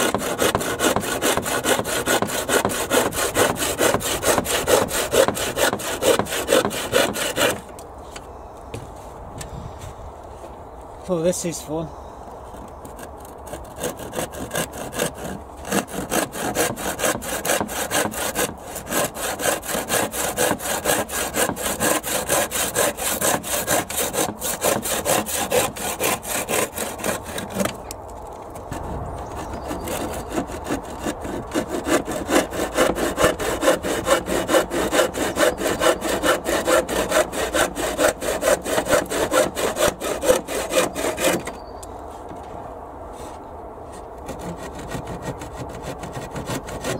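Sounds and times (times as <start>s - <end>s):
handsaw rasping through wood: 0.0s - 7.7s, 12.5s - 27.9s, 28.7s - 41.6s, 44.2s - 46.9s.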